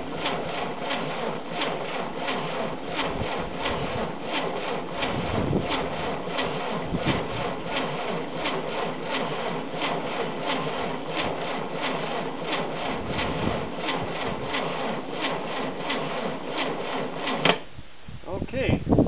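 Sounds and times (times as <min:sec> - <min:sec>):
engine cranking by starter motor: 0:00.0 - 0:17.8.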